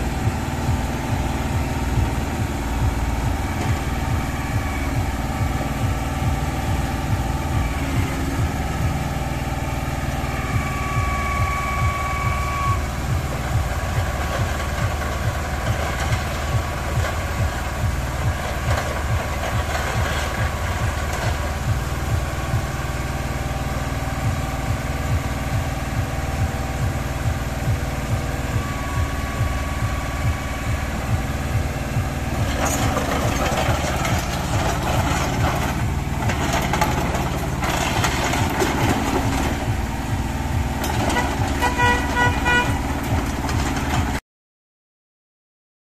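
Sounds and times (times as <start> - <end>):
diesel engine chugging: 0.0 - 44.2.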